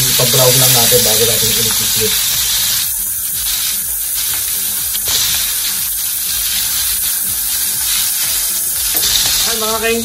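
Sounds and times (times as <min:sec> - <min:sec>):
steaks sizzling in frying pan: 0:00.0 - 0:10.0.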